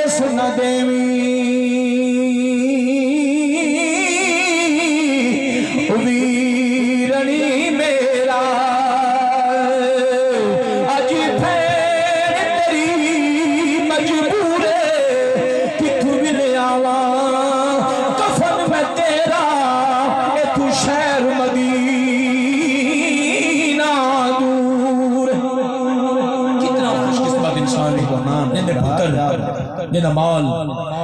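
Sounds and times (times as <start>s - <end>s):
man singing into a microphone: 0.0s - 31.0s.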